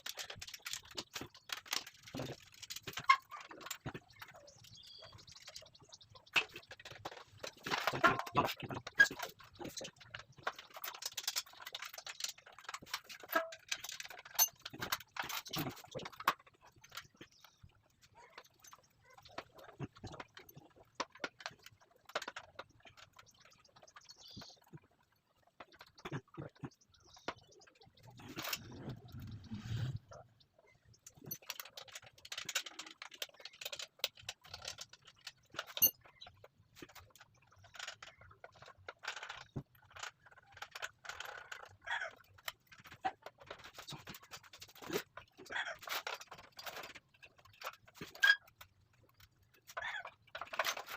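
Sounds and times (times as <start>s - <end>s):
small hard objects clicking and rattling: 0.0s - 50.9s.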